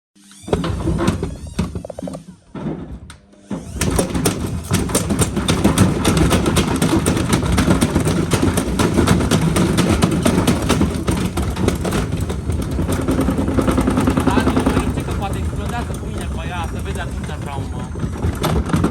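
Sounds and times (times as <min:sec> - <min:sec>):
washing machine motor hum: 0:00.3 - 0:18.9
washing machine rattling and knocking: 0:03.8 - 0:18.9.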